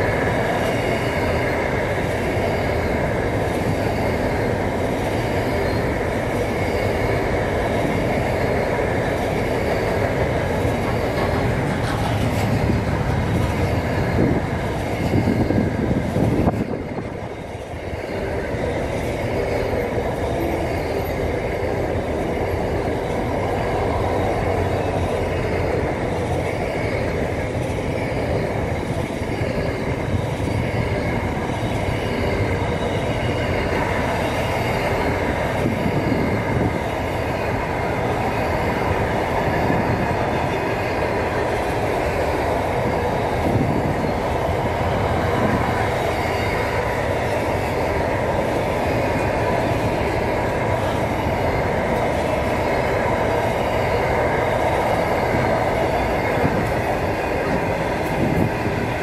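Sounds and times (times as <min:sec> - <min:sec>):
faint whining from wheels: 0:00.0 - 0:59.0
train wheels rumbling on rails: 0:00.0 - 0:59.0.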